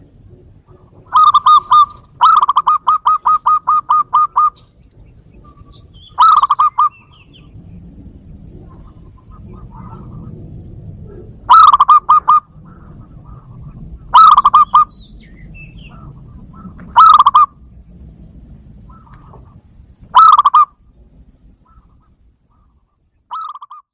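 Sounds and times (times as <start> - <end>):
dove cooing: 0.0 - 7.6, 8.3 - 17.7, 18.7 - 23.9
faint low rumble: 0.0 - 23.8.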